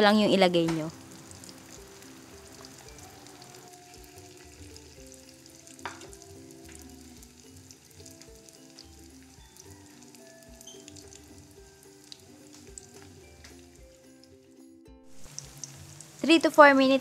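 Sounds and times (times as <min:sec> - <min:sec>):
soft background music: 0:00.0 - 0:17.0
rolls frying in oil: 0:00.8 - 0:14.4, 0:15.1 - 0:17.0.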